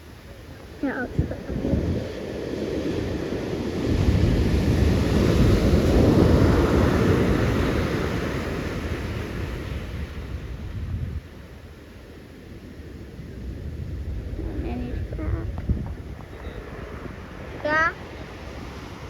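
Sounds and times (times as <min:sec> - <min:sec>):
ocean wave breaking: 0:00.0 - 0:10.7, 0:12.4 - 0:19.0
wind buffeting microphone: 0:00.0 - 0:19.0.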